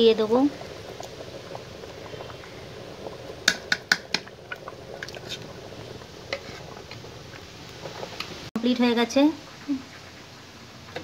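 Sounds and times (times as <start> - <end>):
pot bubbling: 0.0 - 11.0.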